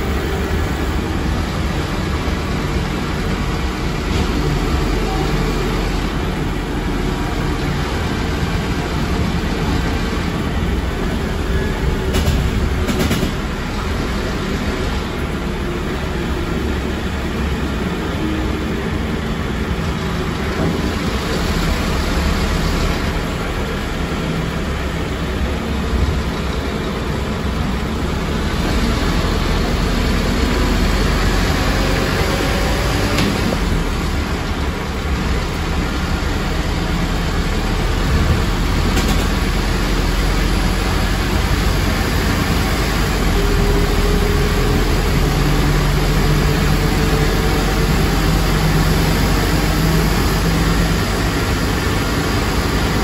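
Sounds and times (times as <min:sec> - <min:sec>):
bus engine drone with whine: 0:00.0 - 0:53.0.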